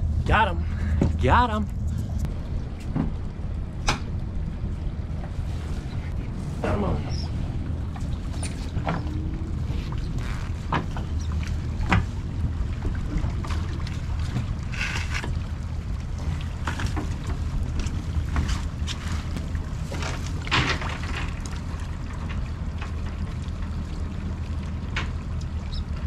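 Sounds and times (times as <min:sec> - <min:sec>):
outboard engines idling: 0:00.0 - 0:26.0
water splashing and dripping: 0:02.2 - 0:26.0.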